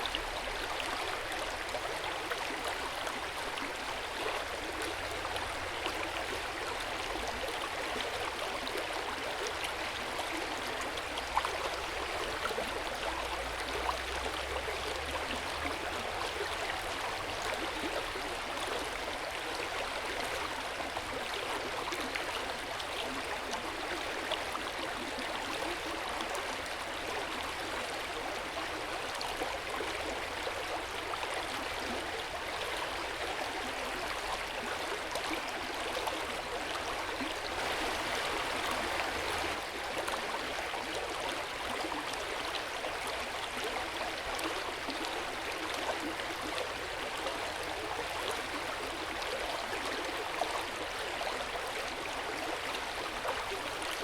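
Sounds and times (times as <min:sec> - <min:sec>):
water flowing and splashing: 0:00.0 - 0:54.0.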